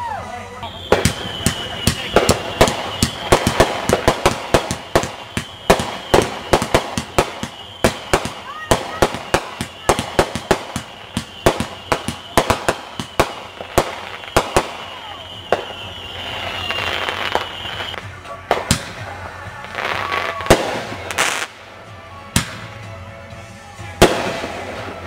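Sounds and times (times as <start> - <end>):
firework whistle: 0.0 - 18.0, 18.6 - 21.6, 23.9 - 25.0
loud firework reports: 0.0 - 23.1, 23.9 - 25.0
fireworks popping and crackling: 0.6 - 21.7, 23.9 - 25.0
firework hissing: 0.6 - 21.8.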